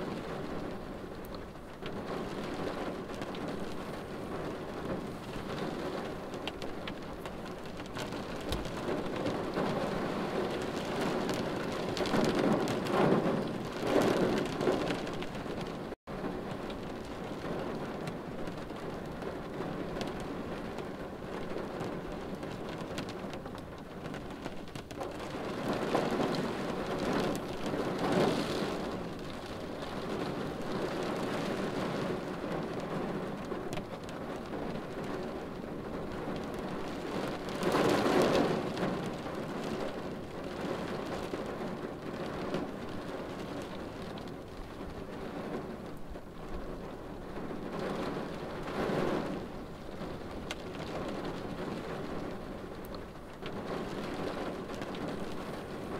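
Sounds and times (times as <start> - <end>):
rain pattering on car windshield: 0.0 - 55.9.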